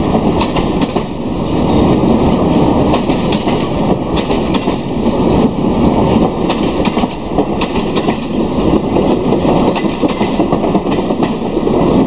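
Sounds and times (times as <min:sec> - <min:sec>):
rumble of steel wheels on rail: 0:00.0 - 0:12.0
wheels clicking over rail joints: 0:00.2 - 0:04.9, 0:05.8 - 0:12.0.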